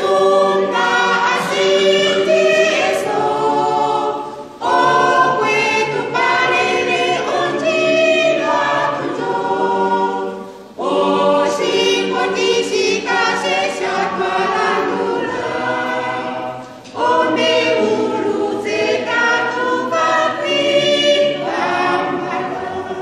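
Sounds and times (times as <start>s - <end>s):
women's choir singing a hymn: 0.0s - 23.0s.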